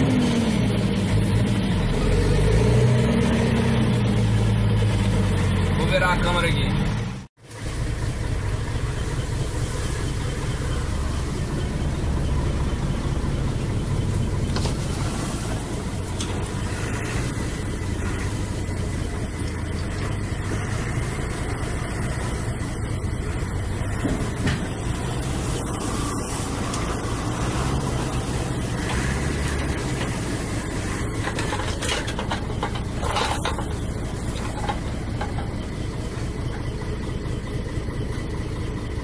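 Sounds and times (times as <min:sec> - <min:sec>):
truck diesel engine drone: 0:00.0 - 0:39.0.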